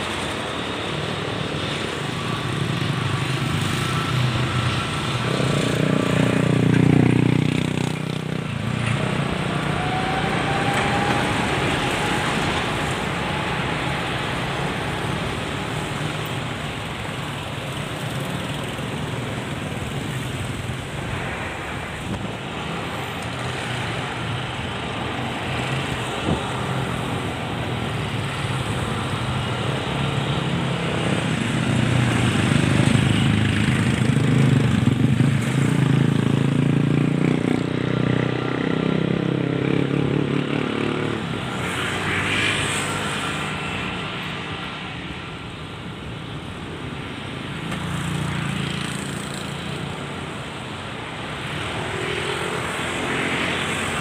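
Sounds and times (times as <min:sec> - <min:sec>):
airplane engines humming: 0:00.0 - 0:38.6, 0:39.4 - 0:54.0.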